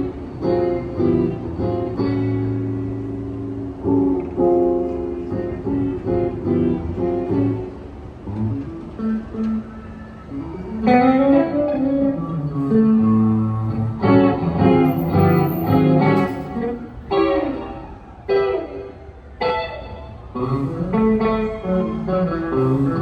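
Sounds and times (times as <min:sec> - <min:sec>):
guitar playing: 0:00.0 - 0:23.0.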